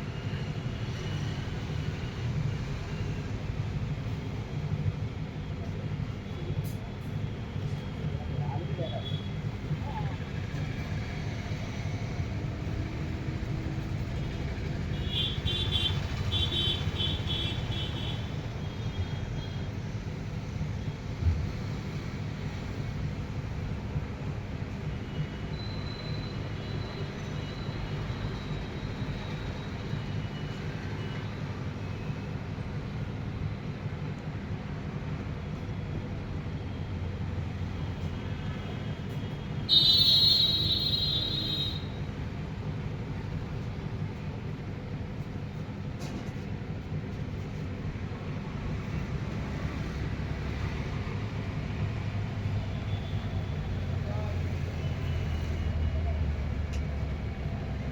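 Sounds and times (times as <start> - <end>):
street traffic rumble: 0.0 - 57.9.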